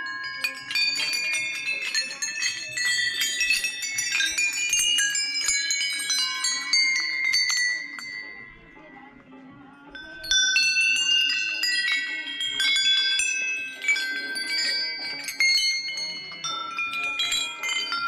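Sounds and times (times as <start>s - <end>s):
brass bells ringing: 0.0s - 9.1s, 10.0s - 18.0s.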